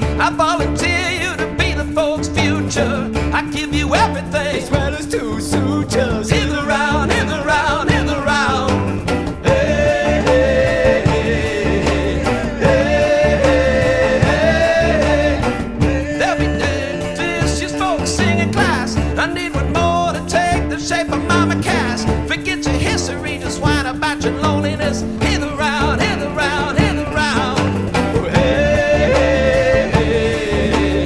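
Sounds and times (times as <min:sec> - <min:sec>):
band music with guitar and bass: 0:00.0 - 0:31.0
person singing with vibrato: 0:00.0 - 0:31.0.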